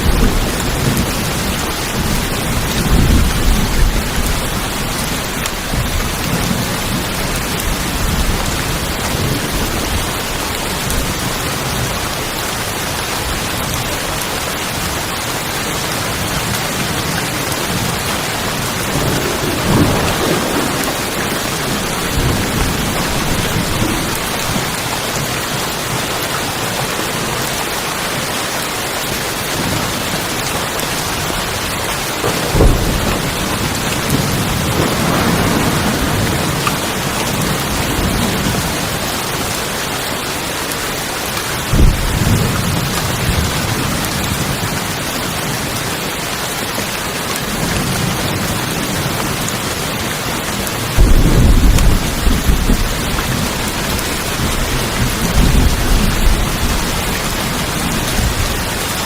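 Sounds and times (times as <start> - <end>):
rain drumming on tin roof: 0.0 - 59.0.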